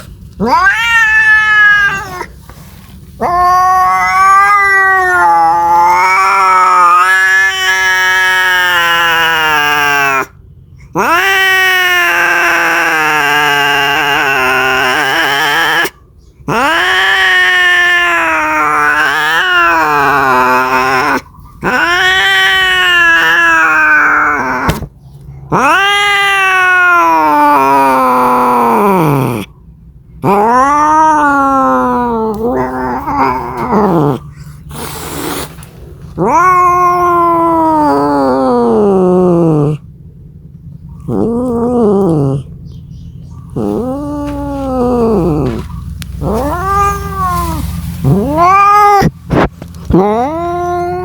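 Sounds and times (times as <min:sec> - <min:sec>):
cat yowling: 0:00.4 - 0:02.4, 0:03.2 - 0:29.5, 0:30.2 - 0:39.9, 0:41.0 - 0:42.6, 0:43.4 - 0:51.0.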